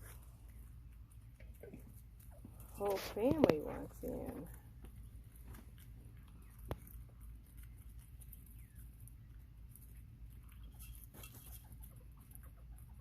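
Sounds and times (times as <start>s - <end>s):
quail pecking and scratching: 0.0s - 13.0s.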